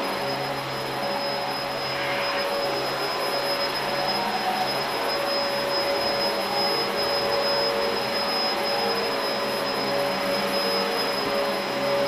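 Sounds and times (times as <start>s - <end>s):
vacuum cleaner running on carpet: 0.0s - 12.0s.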